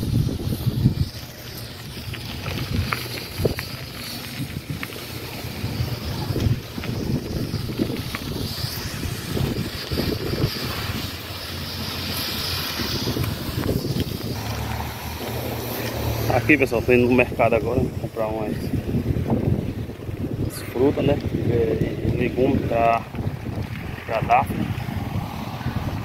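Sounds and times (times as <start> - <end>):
vehicle rumble: 0.0 - 26.0
wind buffeting microphone: 0.0 - 26.0.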